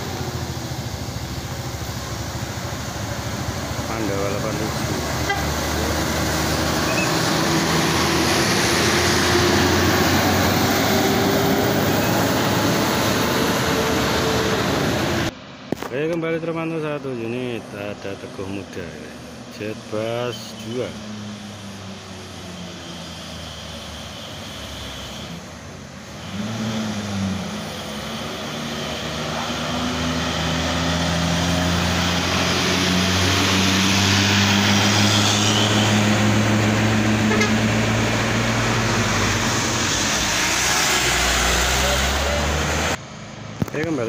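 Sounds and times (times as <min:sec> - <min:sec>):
diesel coach engine climbing hill: 0:00.0 - 0:44.0.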